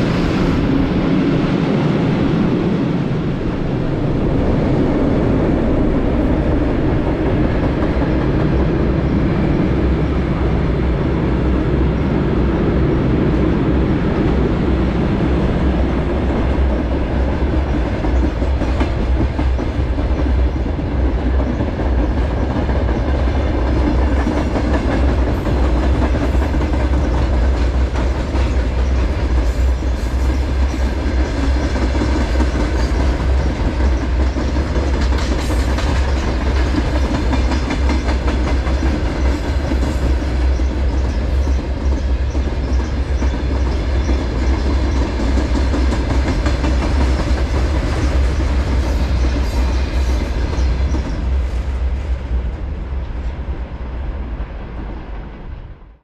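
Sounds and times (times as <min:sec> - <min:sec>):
train passing at speed: 0:00.0 - 0:56.0.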